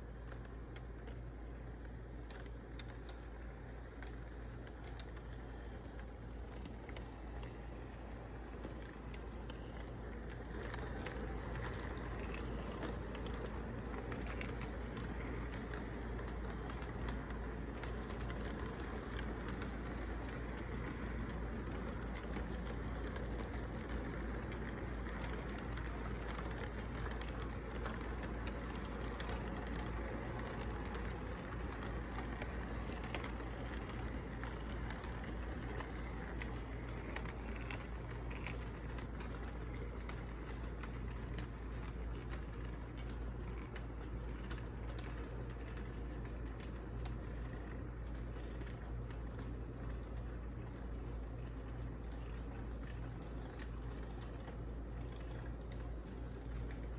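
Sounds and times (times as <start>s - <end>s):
small clicks and rattles: 0.0s - 56.9s
train wheels rumbling on rails: 0.0s - 56.9s.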